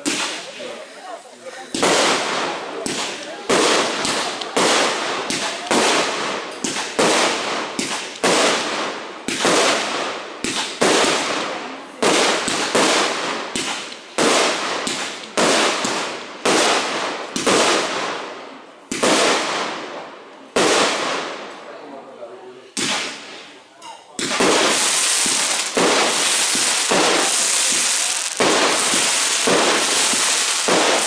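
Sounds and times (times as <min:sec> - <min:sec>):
fireworks bursting: 0:00.0 - 0:01.0, 0:01.7 - 0:21.6, 0:22.7 - 0:23.6, 0:24.2 - 0:31.0.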